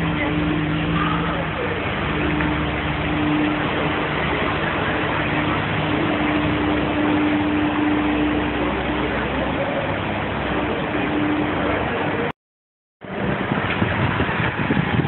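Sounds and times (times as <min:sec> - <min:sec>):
car engine running: 0:00.0 - 0:12.3
street noise: 0:00.0 - 0:12.4, 0:13.0 - 0:15.0.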